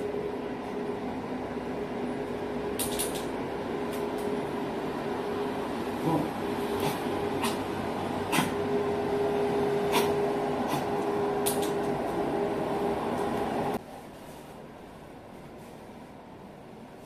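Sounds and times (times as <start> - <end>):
machine hum with held tone: 0.0 - 13.8.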